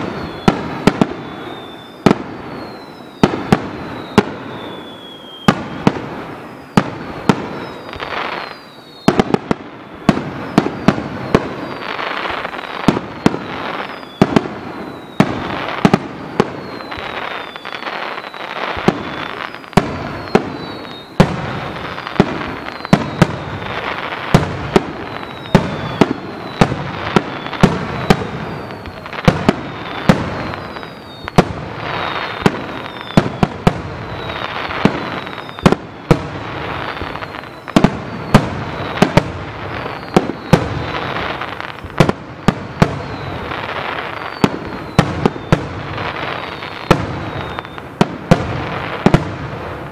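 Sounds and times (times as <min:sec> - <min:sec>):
falling firework whistles: 0:00.0 - 0:49.9
firework crackling: 0:00.0 - 0:49.9.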